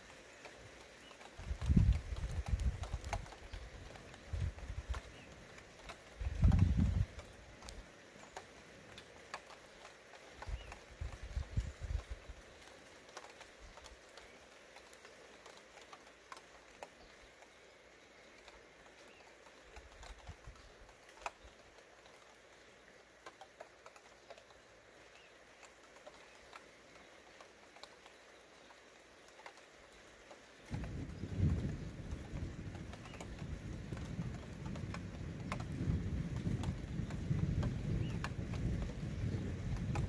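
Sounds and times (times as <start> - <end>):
rain drops ticking: 0.0 - 40.0
steady rain hiss: 0.0 - 40.0.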